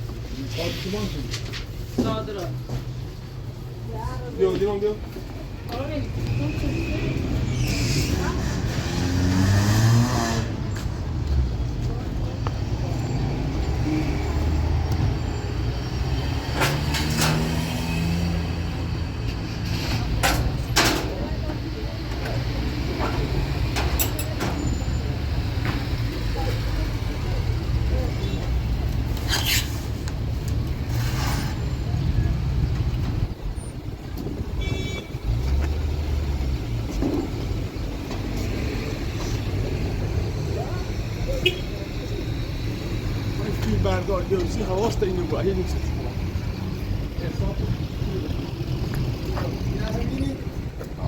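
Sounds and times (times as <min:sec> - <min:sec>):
road vehicle rumble: 0:00.0 - 0:51.0.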